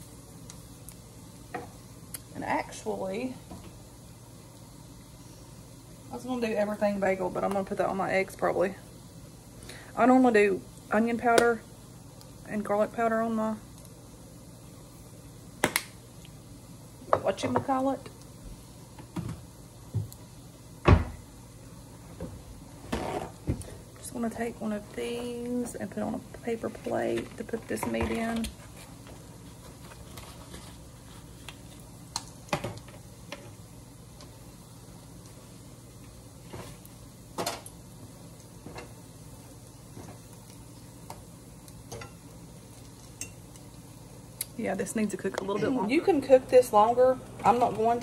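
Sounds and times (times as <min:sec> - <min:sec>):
meat sizzling in a pan: 0:00.0 - 0:27.2, 0:28.2 - 0:48.0.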